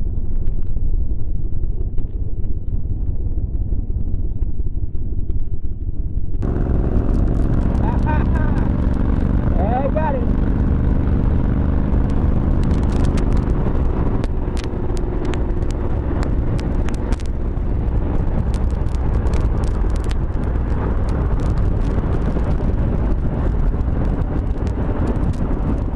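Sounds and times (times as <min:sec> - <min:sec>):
road and wind rumble: 0:00.0 - 0:25.9
vehicle engine drone: 0:00.0 - 0:25.9.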